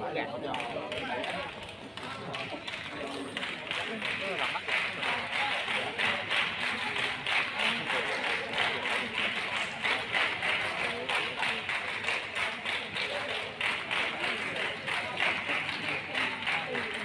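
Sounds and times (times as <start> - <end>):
spectators clapping in rhythm: 0.3 - 17.0.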